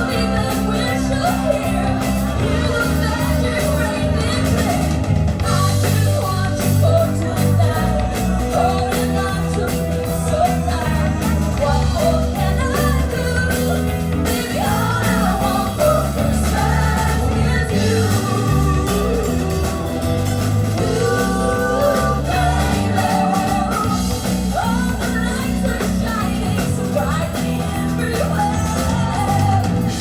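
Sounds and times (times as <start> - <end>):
bass line: 0.0 - 30.0
guitar: 0.0 - 30.0
lead vocal singing: 0.0 - 30.0.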